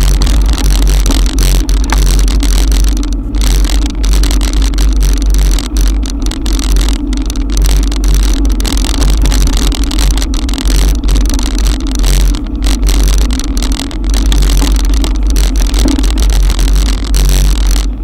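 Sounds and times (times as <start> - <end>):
wet tyres on road: 0.0 - 18.0
wind buffeting microphone: 0.0 - 18.0.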